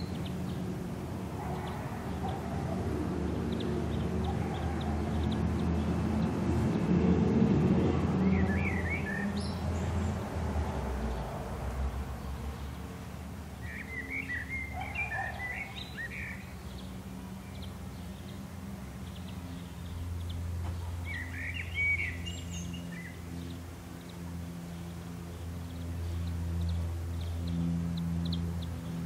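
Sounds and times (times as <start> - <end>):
distant road traffic rumble: 0.0 - 29.0
songbirds chirping: 0.0 - 29.0.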